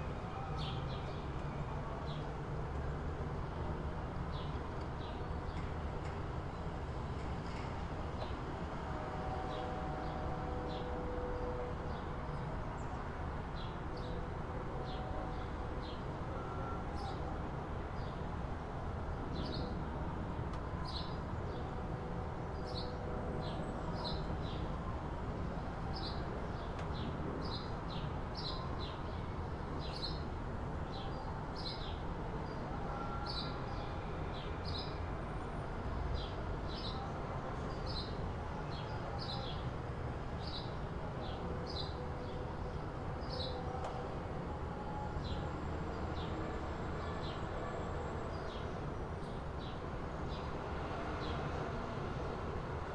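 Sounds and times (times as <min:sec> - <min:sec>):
low hum of city traffic: 0:00.0 - 0:52.9.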